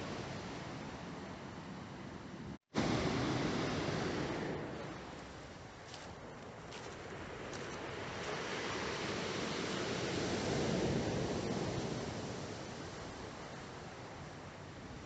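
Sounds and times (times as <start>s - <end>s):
waves washing onto shore: 0.0s - 15.0s.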